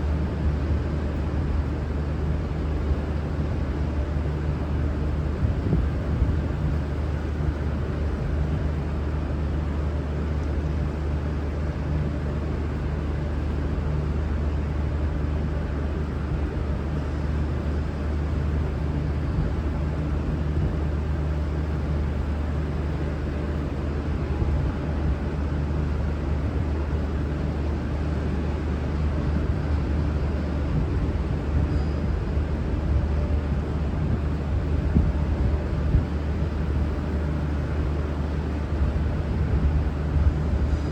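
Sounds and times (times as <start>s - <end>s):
diesel train engines idling: 0.0s - 40.9s.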